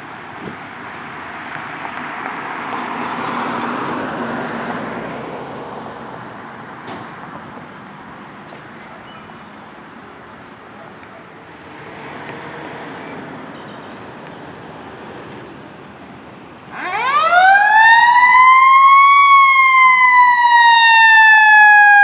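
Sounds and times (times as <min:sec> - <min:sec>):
road traffic engine and tyre noise: 0:00.0 - 0:22.0.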